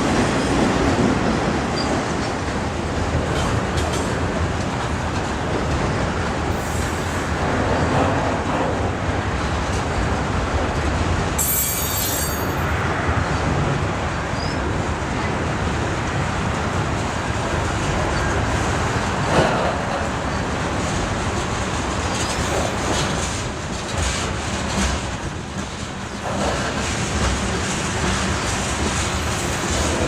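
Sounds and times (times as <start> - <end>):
freight train cars rolling: 0.0 - 30.0.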